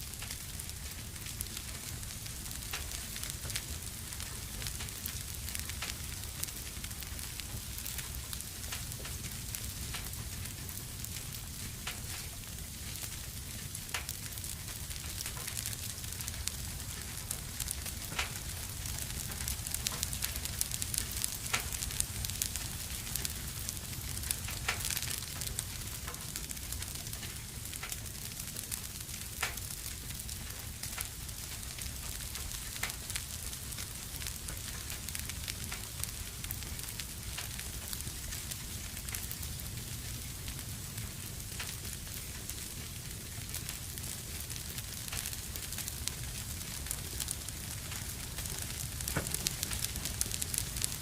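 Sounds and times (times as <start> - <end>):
fire crackling and popping: 0.0 - 51.0
fire hissing: 0.1 - 51.0.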